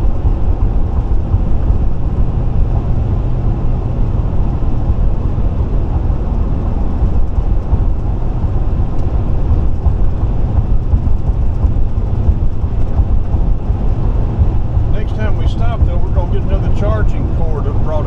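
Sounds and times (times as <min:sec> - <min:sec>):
road and tyre noise: 0:00.0 - 0:18.0.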